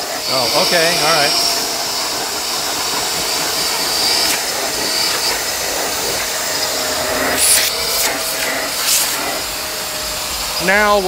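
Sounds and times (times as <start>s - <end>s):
suction motor running: 0.0s - 11.0s
water hissing surges: 0.0s - 11.0s.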